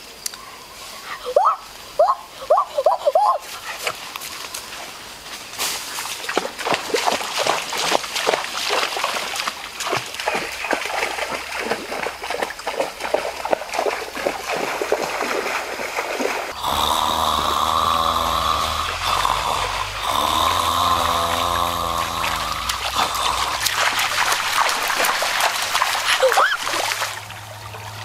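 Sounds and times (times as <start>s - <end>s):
flowing stream water: 1.2s - 28.0s
feet splashing through stream: 3.0s - 28.0s.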